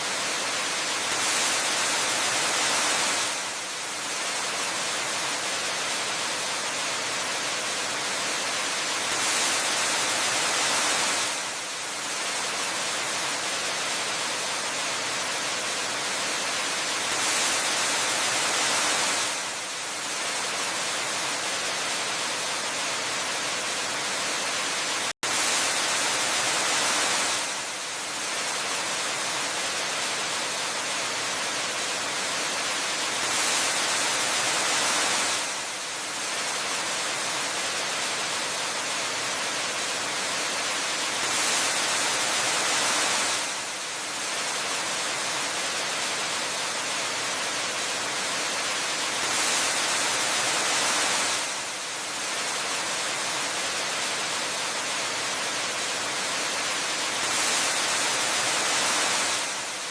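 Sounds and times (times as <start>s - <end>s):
waterfall hiss: 0.0s - 59.9s.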